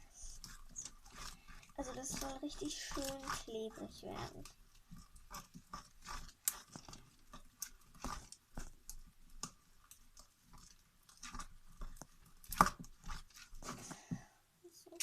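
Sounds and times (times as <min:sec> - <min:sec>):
spoon stirring sticky slime: 0:00.0 - 0:14.3.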